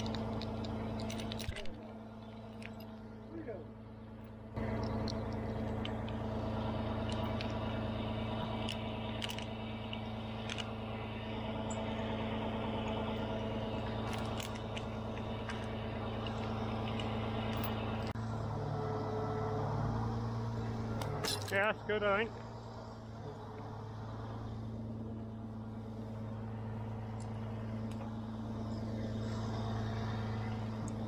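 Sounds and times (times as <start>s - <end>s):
large diesel engine running: 0.0s - 31.0s.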